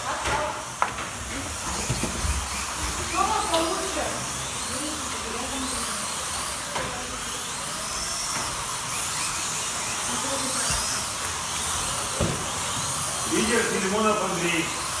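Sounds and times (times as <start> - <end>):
slot car motors whining: 0.0 - 15.0.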